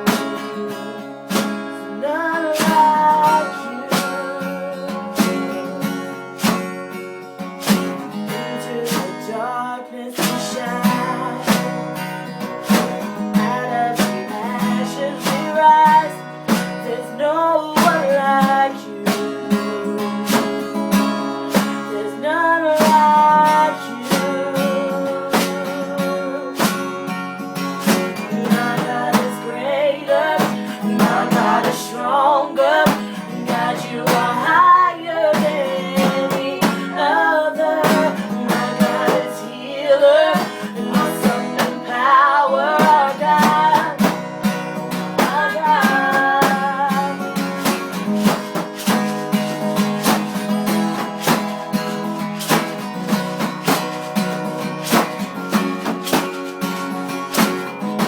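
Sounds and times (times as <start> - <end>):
person singing: 0.0 - 6.4, 8.3 - 51.3
acoustic guitar strumming: 0.0 - 58.0.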